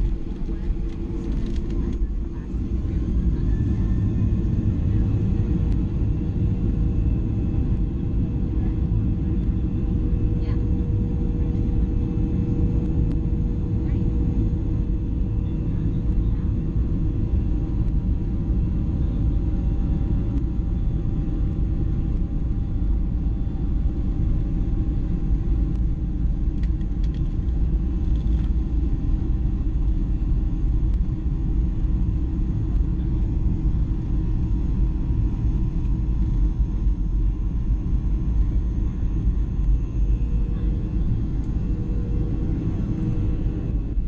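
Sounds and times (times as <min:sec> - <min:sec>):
airplane engine rumble: 0:00.0 - 0:44.0.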